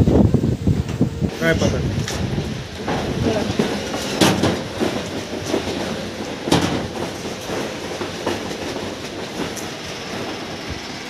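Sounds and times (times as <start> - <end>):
strong wind rushing: 0.0 - 11.0
wind buffeting microphone: 0.0 - 11.0.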